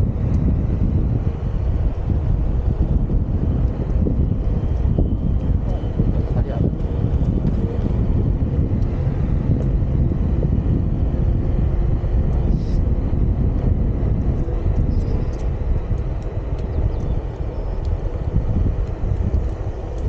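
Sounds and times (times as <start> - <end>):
wheel rumbling on asphalt: 0.0 - 20.0
wind rushing over microphone: 0.0 - 20.0.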